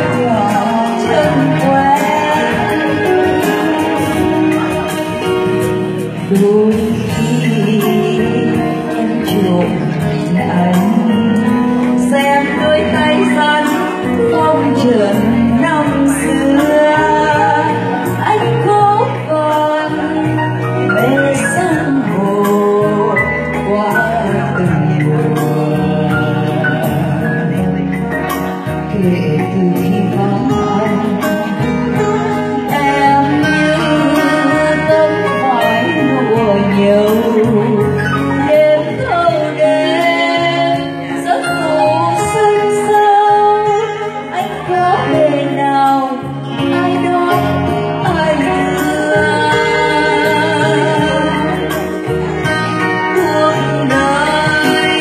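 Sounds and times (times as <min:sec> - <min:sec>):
guitar: 0:00.0 - 0:55.0
keyboard: 0:00.0 - 0:55.0
woman singing into a microphone: 0:00.0 - 0:55.0.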